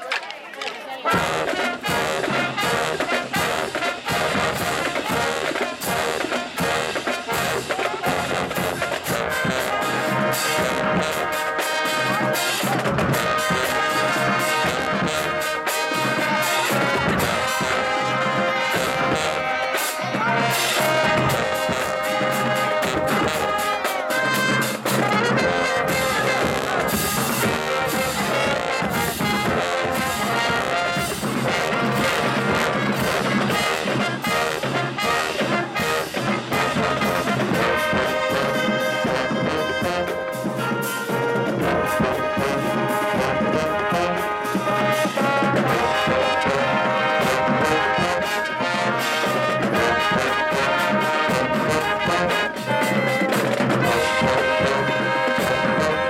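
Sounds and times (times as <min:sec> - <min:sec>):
brass band playing: 0:00.0 - 0:56.0
drumline beat: 0:00.0 - 0:56.0.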